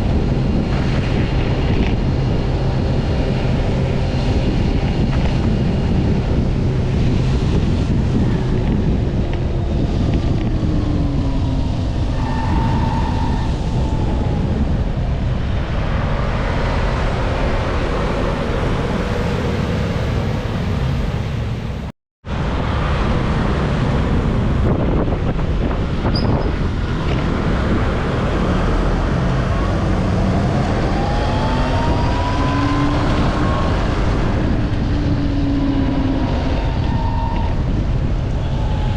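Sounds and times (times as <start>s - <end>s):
vehicle engines passing: 0.0s - 38.9s
wind buffeting microphone: 0.0s - 38.9s.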